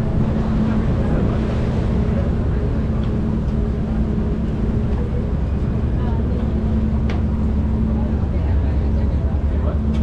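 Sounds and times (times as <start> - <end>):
ferry engines droning: 0.0 - 10.0.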